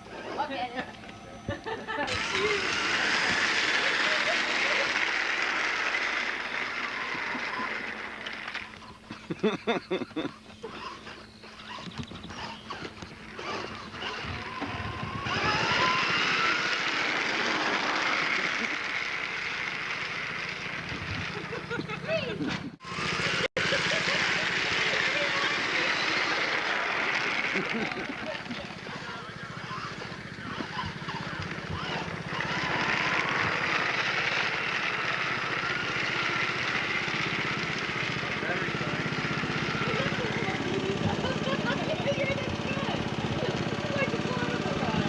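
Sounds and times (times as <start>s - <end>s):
small engine running: 0.0s - 45.0s
small motor whining: 0.0s - 45.0s.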